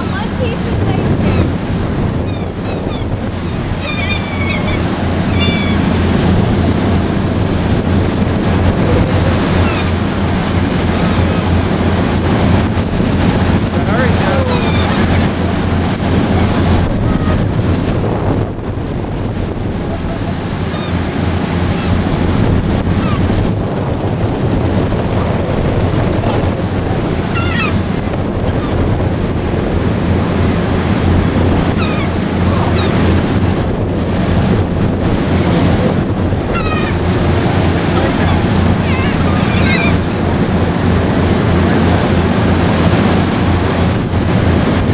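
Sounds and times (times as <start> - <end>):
boat engine droning: 0.0 - 44.9
water rushing along hull: 0.0 - 44.9
wind buffeting microphone: 0.0 - 44.9.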